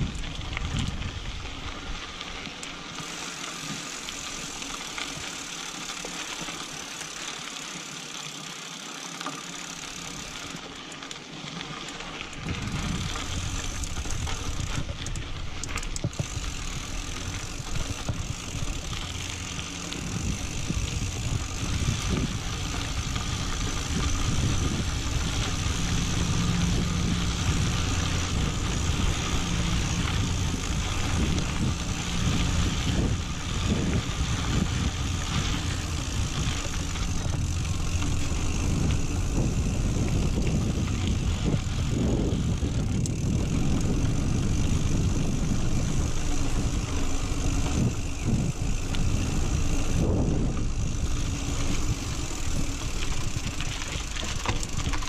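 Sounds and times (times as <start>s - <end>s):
wind rumbling on microphone: 0.0s - 2.4s, 12.3s - 55.0s
bike rattling: 0.0s - 55.0s
bike tyres crunching on rocky dirt: 0.0s - 55.0s.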